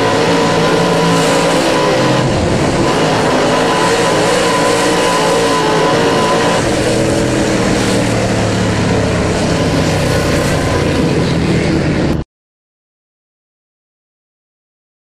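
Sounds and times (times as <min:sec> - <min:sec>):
race car engine running: 0:00.0 - 0:12.2.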